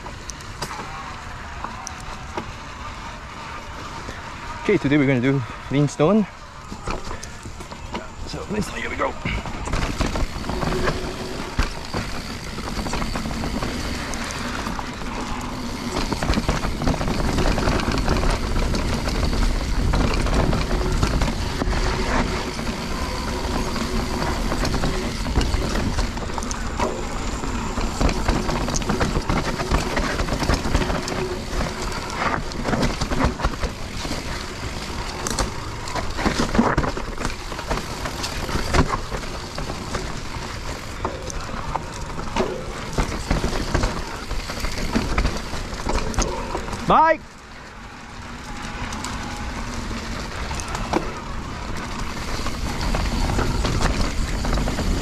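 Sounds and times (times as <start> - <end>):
bike rattles and knocks: 0.0 - 55.0
mountain bike rumbling on dirt: 0.0 - 55.0.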